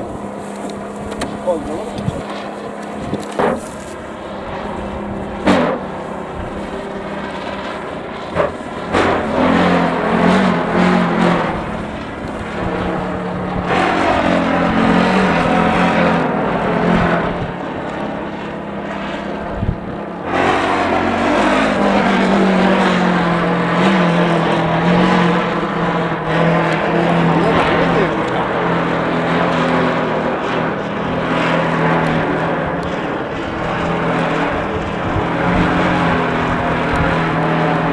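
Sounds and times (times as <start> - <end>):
gusty wind: 0.0 - 37.9
kite buzzing and fluttering: 0.0 - 37.9.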